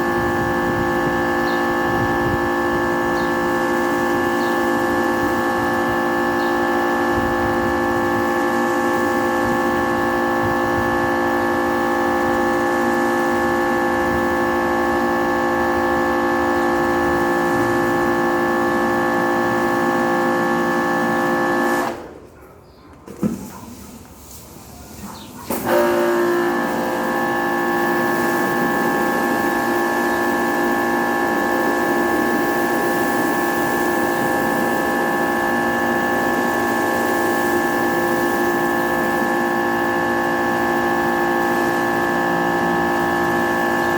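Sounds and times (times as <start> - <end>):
pressure washer motor hum: 0.0 - 22.2, 25.1 - 43.9.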